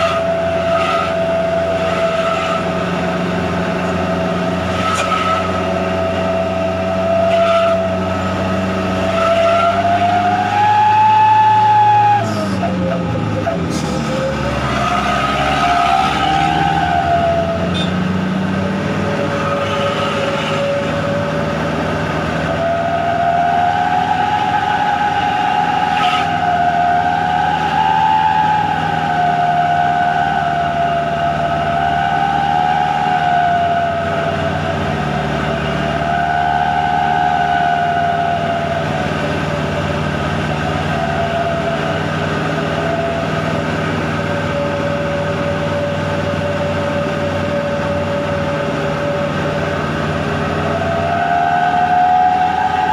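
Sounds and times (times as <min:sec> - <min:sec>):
exhaust whistle howling: 0:00.0 - 0:52.9
truck engine running: 0:00.0 - 0:52.9.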